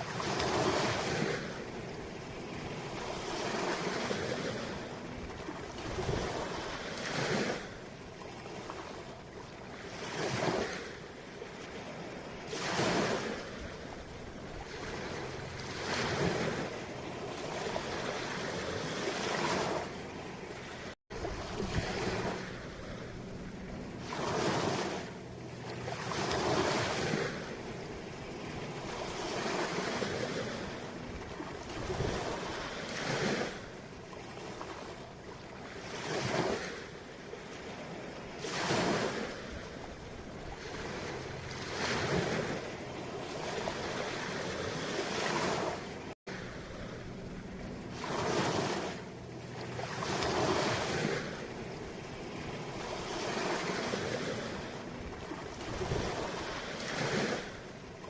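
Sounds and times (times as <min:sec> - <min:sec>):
sea waves washing: 0:00.0 - 0:58.0.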